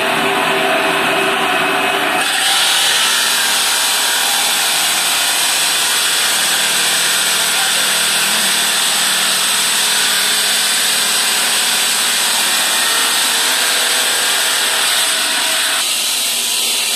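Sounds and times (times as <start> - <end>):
stone saw grinding: 1.8 - 16.9
electric motor humming: 2.2 - 16.9.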